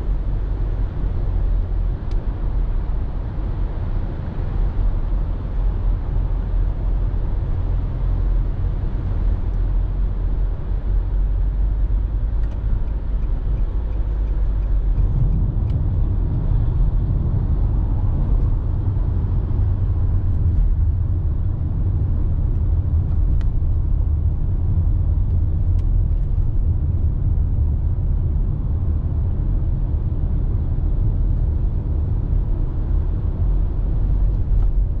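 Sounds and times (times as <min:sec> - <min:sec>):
road and engine rumble: 0:00.0 - 0:35.0.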